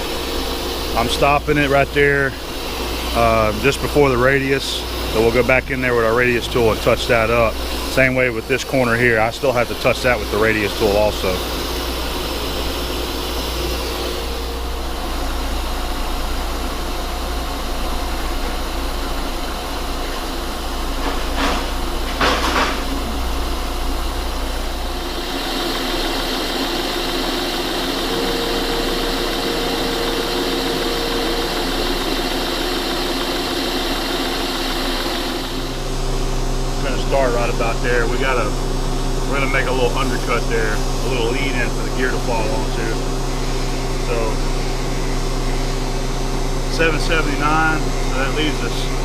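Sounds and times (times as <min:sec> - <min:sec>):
metal lathe humming: 0:00.0 - 0:49.0
steady high whine: 0:00.0 - 0:49.0.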